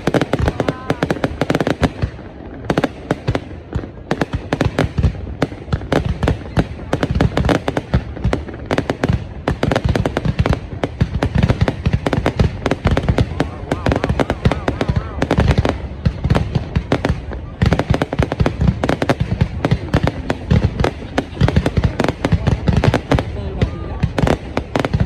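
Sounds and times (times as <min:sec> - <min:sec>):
fireworks cracking and banging: 0:00.0 - 0:25.0.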